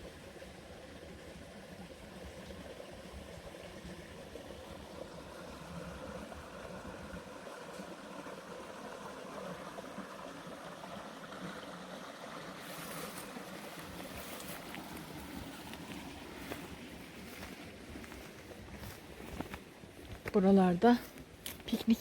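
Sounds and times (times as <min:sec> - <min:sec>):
stream rushing over rocks: 0:00.0 - 0:20.3.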